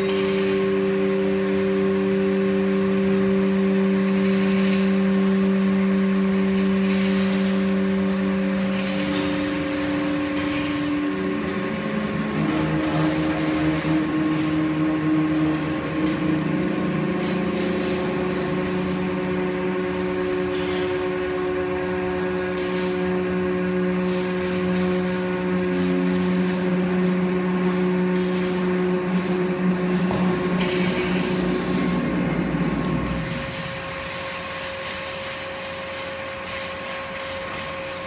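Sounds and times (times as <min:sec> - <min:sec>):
hydraulic pump humming: 0:00.0 - 0:38.0.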